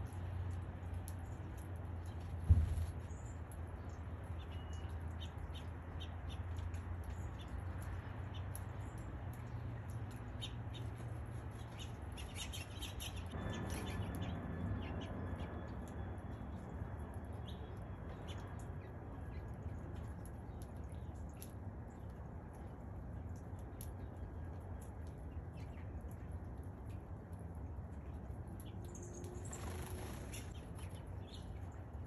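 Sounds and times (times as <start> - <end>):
rain falling: 0.0 - 32.0
small birds chirping: 0.0 - 32.0.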